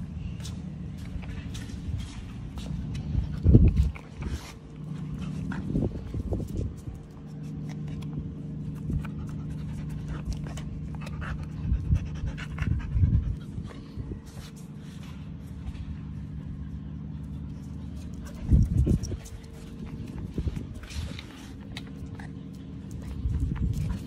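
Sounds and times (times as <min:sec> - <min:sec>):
steady low hum: 0:00.0 - 0:24.0
dog panting: 0:00.4 - 0:24.0.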